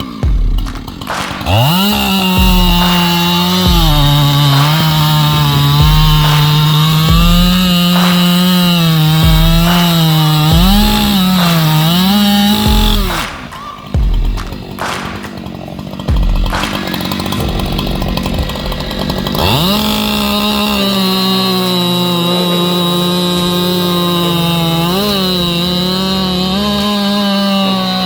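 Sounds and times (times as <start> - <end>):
chainsaw revving: 0.0 - 28.0.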